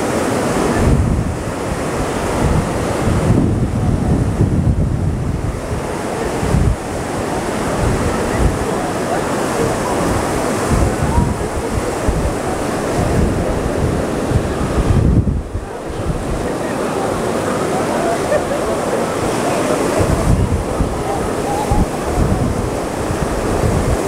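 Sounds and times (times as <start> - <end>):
sea surf breaking: 0.0 - 24.0
wind buffeting microphone: 0.0 - 24.0.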